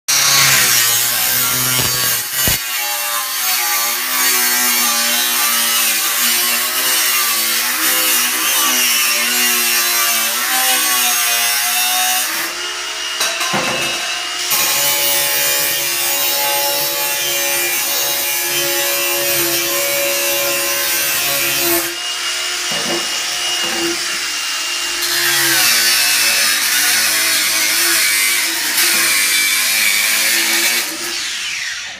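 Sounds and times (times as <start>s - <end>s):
angle grinder cutting metal: 0.1s - 31.9s.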